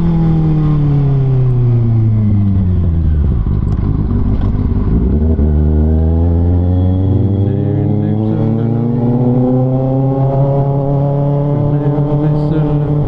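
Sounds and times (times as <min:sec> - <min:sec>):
motorcycle engine slowing: 0:00.0 - 0:13.0.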